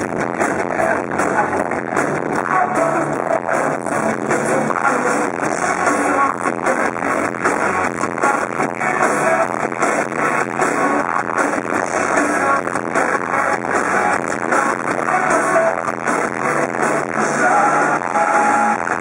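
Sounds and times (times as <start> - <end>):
live rock band with vocals: 0.0 - 19.0.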